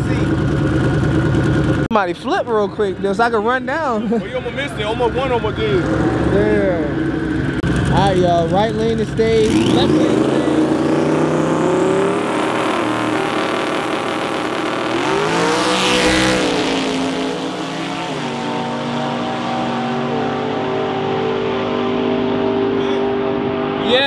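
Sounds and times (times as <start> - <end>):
racing car engines at full throttle: 2.9 - 24.0.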